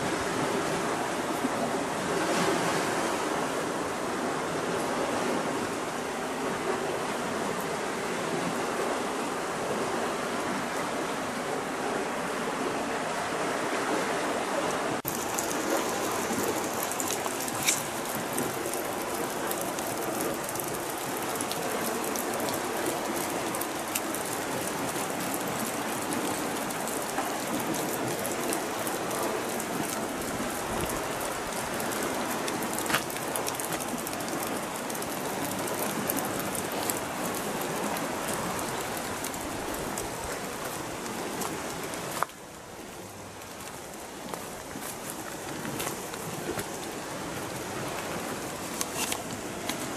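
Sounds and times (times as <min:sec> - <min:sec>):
light rain falling: 0:00.0 - 0:49.9.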